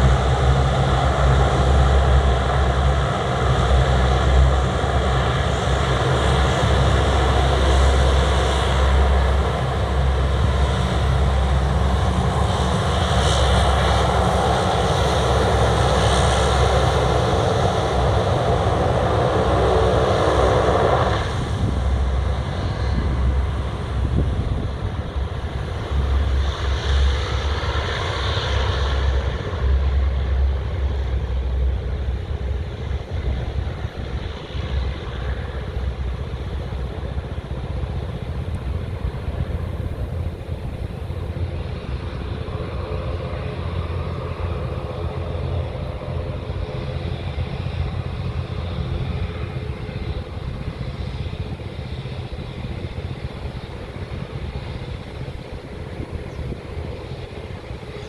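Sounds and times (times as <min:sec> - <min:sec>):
turboprop aircraft droning: 0:00.0 - 0:58.0.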